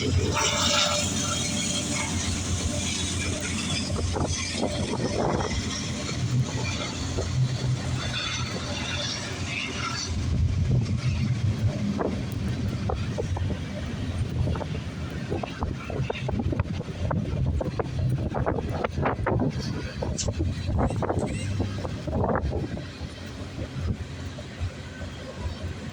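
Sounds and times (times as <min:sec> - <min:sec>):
diesel locomotive engine rumble: 0:00.0 - 0:25.9.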